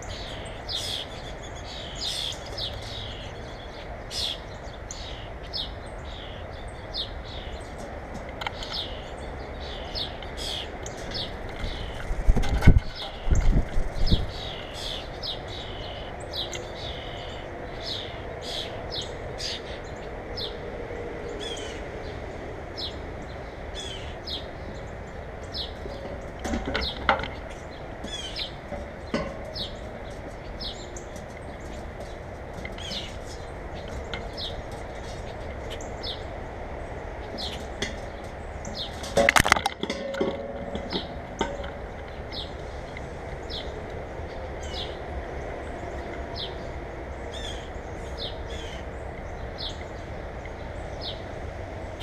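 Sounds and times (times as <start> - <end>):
small birds chirping: 0.0 - 20.6, 21.2 - 52.0.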